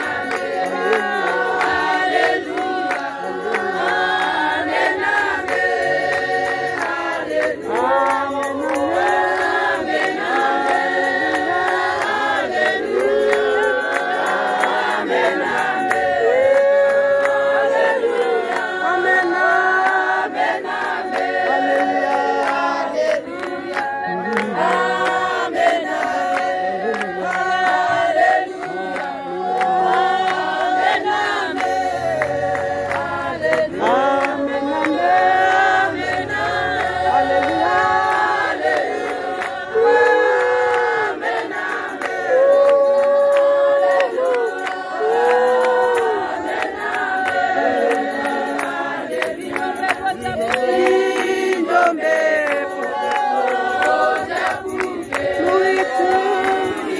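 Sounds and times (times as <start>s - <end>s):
congregation singing a hymn: 0.0s - 56.9s
hand clapping: 0.0s - 56.9s.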